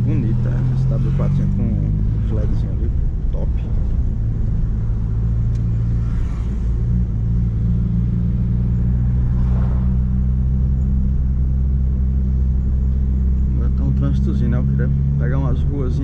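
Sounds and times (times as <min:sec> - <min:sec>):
car engine droning through exhaust: 0:00.0 - 0:16.0.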